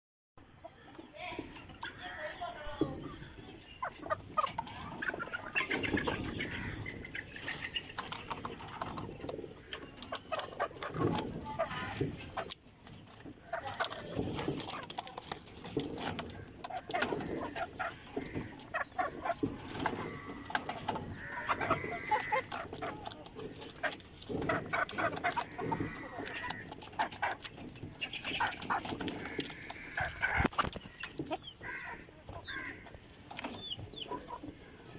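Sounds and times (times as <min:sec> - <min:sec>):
chickens clucking: 0:00.4 - 0:34.9.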